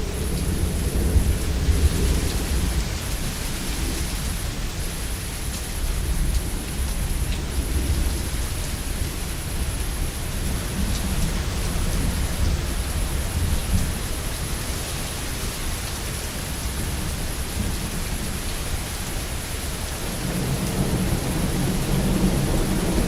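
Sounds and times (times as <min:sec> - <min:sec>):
heavy rain falling: 0:00.0 - 0:23.0
thunder rumbling: 0:00.0 - 0:23.0.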